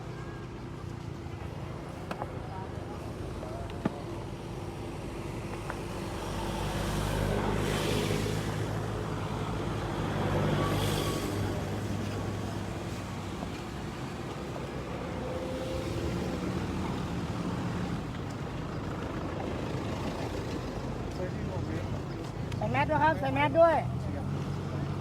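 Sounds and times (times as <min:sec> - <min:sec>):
road and traffic noise: 0:00.0 - 0:25.0.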